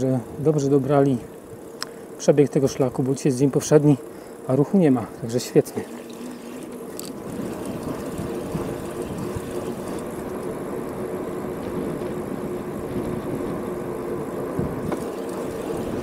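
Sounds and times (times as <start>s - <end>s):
bicycle rolling on paved road: 0.0s - 16.0s
faint even hum: 0.0s - 16.0s.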